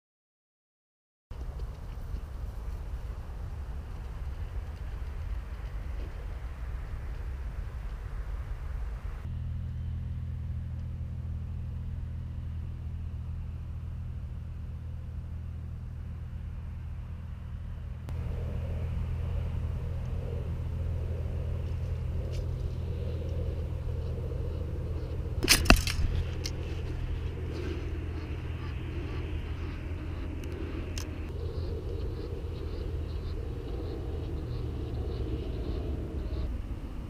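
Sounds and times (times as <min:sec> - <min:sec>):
steady low rumble: 0:01.3 - 0:37.0.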